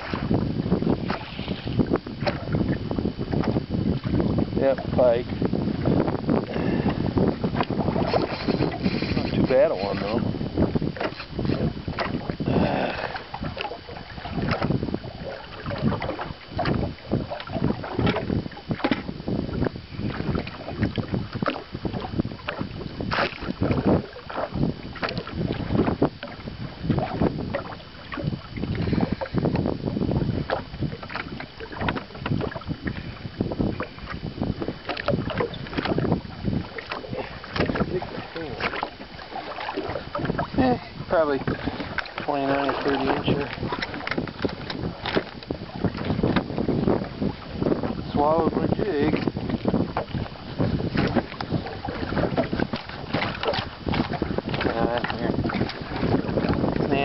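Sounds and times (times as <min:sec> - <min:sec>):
knocks and splashes: 0:00.0 - 0:29.8, 0:30.4 - 0:57.0
water lapping against boat: 0:00.0 - 0:57.0
wind buffeting microphone: 0:00.0 - 0:57.0.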